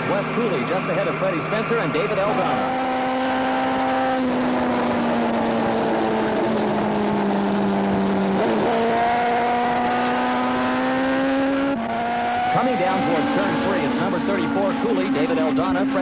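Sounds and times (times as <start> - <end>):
superbike engine at high revs: 0.0 - 16.0.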